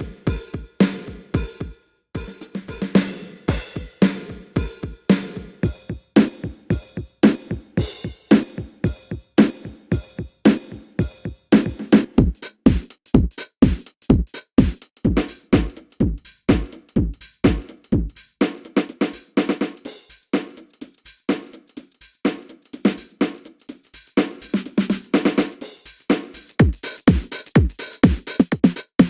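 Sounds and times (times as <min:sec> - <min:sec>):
hi-hat or cymbal: 0:00.0 - 0:29.0.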